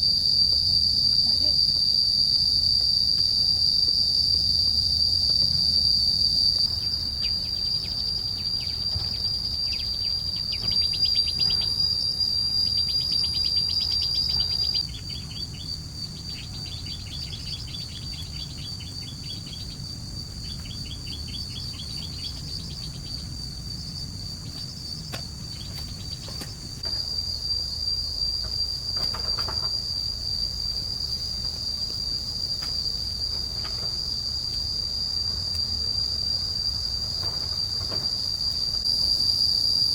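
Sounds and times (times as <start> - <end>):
insects droning: 0.0 - 39.9
rapid insect chirps: 0.0 - 39.9.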